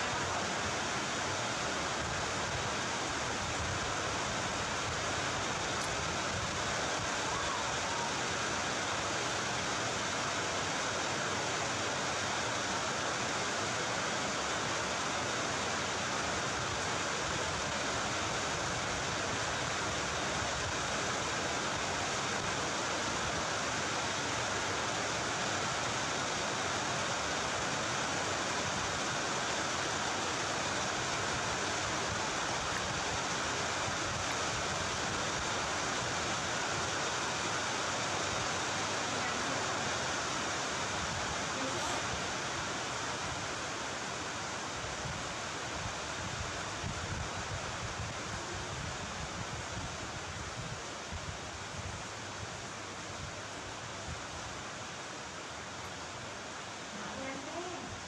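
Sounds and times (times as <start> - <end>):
steady rushing hiss: 0.0 - 58.0.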